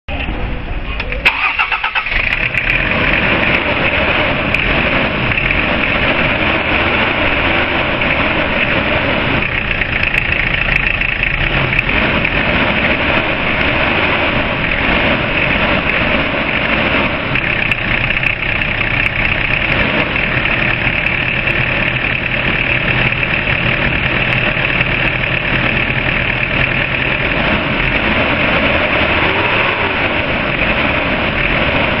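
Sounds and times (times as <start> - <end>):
car engine idling: 0.1 - 32.0.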